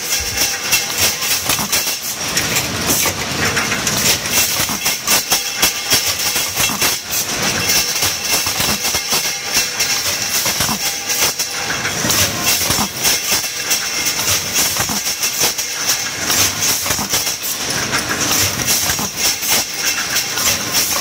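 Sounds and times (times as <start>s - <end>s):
metal tubes clattering: 0.0s - 21.0s.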